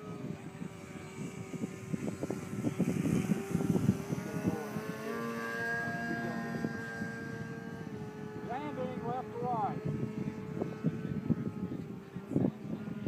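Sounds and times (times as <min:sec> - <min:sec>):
higher whine: 0:00.0 - 0:13.0
model airplane motor whining: 0:00.0 - 0:13.0
wind buffeting microphone: 0:00.0 - 0:13.0.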